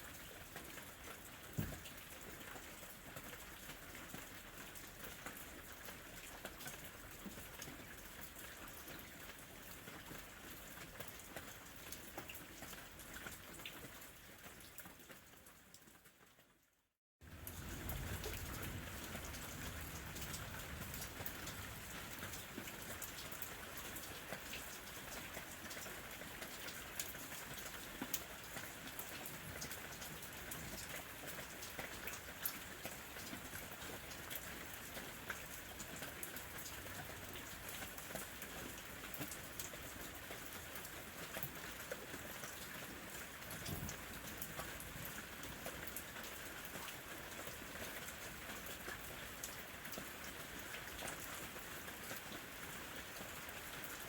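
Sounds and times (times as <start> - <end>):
rain falling: 0.0 - 16.5, 17.2 - 54.0.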